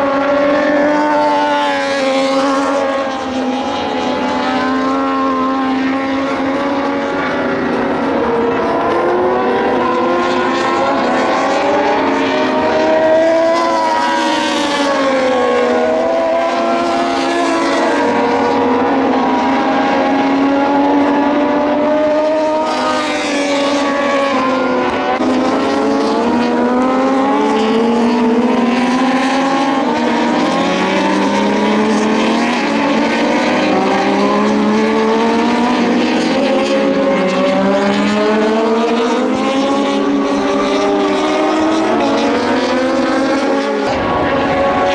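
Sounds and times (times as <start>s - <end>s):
racing motorcycles revving: 0.0s - 44.9s.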